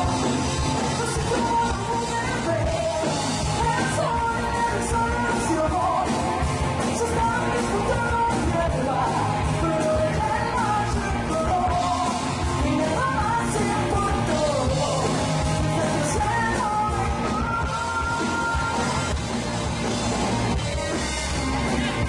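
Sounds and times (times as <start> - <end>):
person singing: 0.0 - 19.2
drums: 0.0 - 22.0
electric guitars: 0.0 - 22.0.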